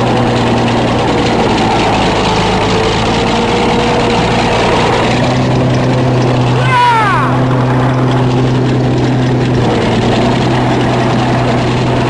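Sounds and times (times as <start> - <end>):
bulldozer diesel engine idling: 0.0 - 12.0.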